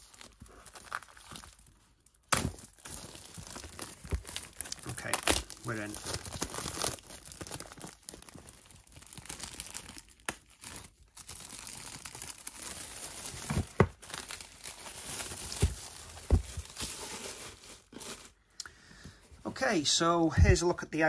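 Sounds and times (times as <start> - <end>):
packaging crinkling and rustling: 0.0 - 18.4.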